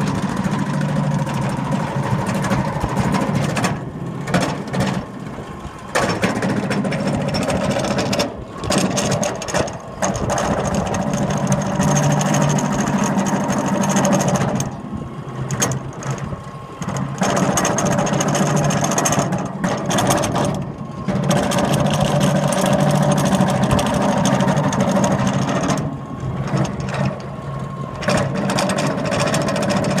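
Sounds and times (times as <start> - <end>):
pumpjack whine and rumble: 0.0 - 30.0.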